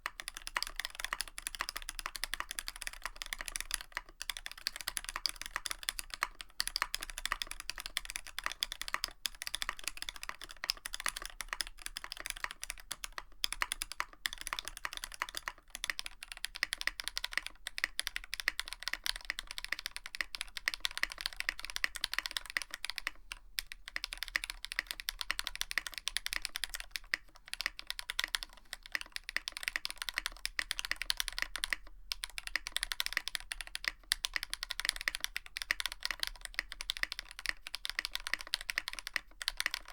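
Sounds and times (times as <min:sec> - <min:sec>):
rapid mechanical keyboard typing: 0:00.0 - 0:39.9.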